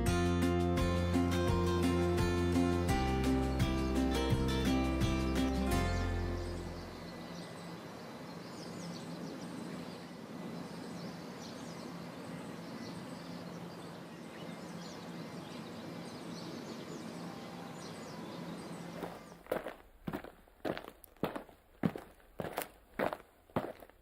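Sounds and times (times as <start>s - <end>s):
small birds chirping: 1.8s - 24.0s.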